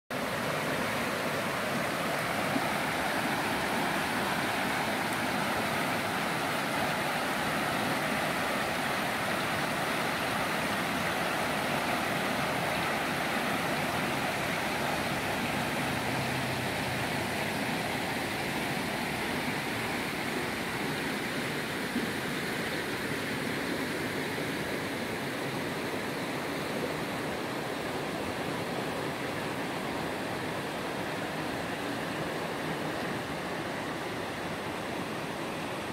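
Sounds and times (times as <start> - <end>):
river rushing over stones: 0.1 - 35.9.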